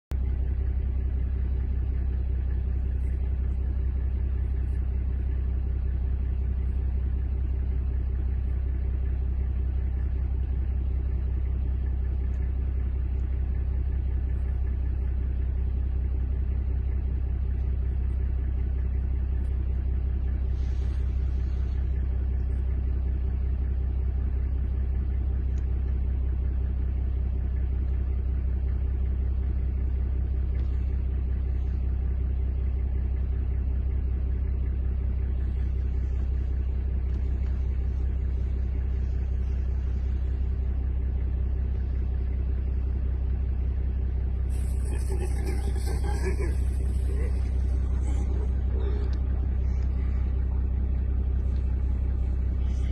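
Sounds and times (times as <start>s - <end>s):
low mechanical rumble with hum: 0.0s - 52.9s.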